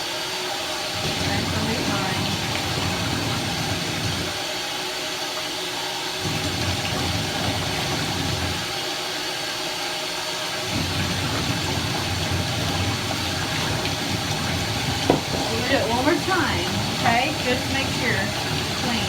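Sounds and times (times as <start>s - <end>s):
water running from a tap: 0.0s - 19.0s.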